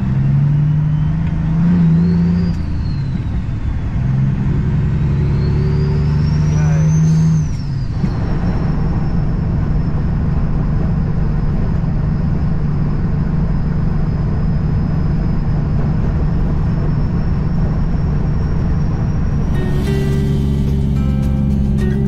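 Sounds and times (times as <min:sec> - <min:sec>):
truck diesel engine drone: 0:00.0 - 0:22.0.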